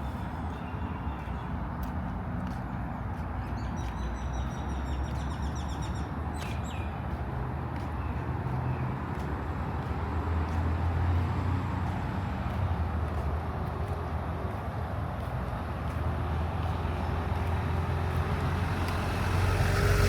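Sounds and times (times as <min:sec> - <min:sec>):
low rumble of city traffic: 0:00.0 - 0:20.0.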